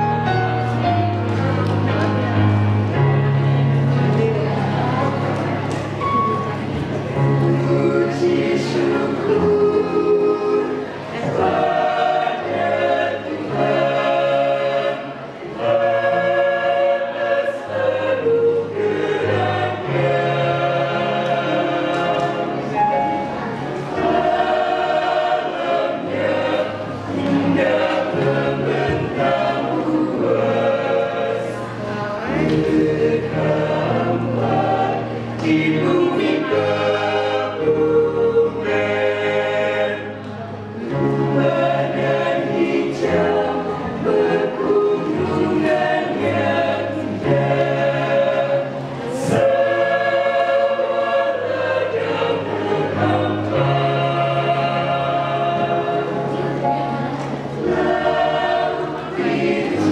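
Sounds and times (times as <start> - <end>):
children's choir singing a hymn: 0.0 - 59.9.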